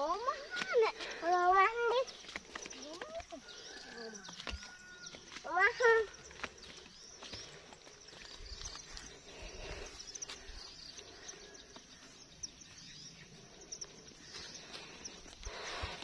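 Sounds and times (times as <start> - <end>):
bird chirps: 1.2 - 16.0.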